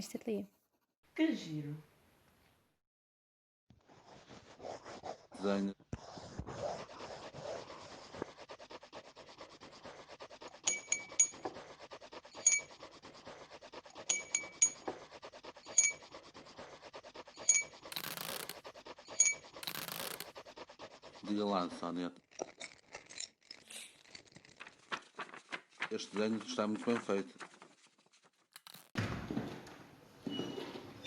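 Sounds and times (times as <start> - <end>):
pencil scratching on paper: 3.8 - 29.0.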